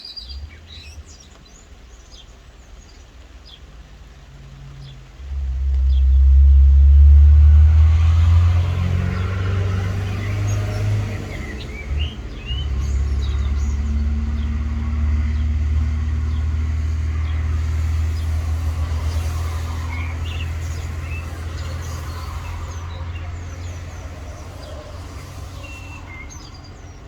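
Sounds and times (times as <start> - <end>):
birds chirping: 0.0 - 27.0
low steady rumble: 0.2 - 27.0.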